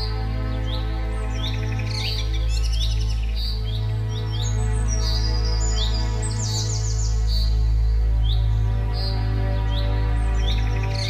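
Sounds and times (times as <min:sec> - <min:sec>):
background music with low drone: 0:00.0 - 0:11.0
small birds chirping: 0:00.0 - 0:11.0.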